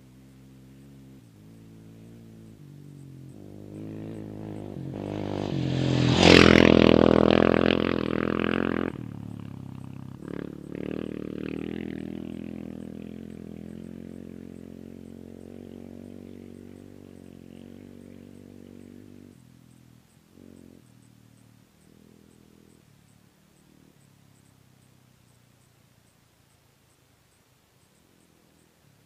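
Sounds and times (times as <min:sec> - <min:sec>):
race vehicle engine pulling away: 0:00.0 - 0:26.0.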